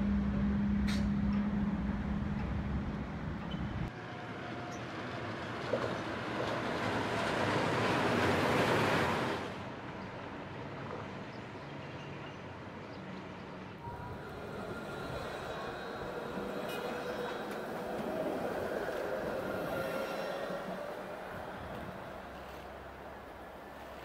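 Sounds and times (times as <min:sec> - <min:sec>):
monorail train rushing overhead: 0:00.0 - 0:10.8, 0:13.2 - 0:24.0
outdoor background noise: 0:00.0 - 0:24.0.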